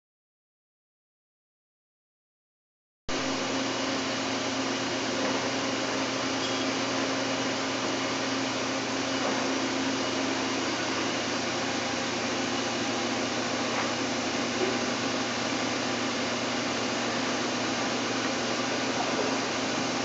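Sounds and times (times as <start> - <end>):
machining center whirring: 3.1 - 20.0.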